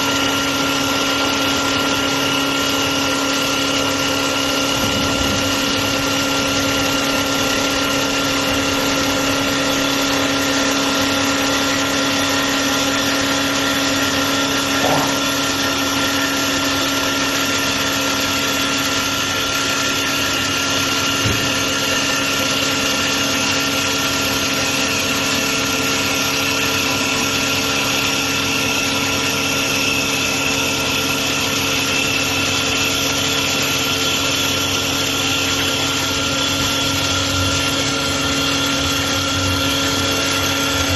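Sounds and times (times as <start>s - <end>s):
wood lathe motor hum and whine: 0.0s - 40.9s.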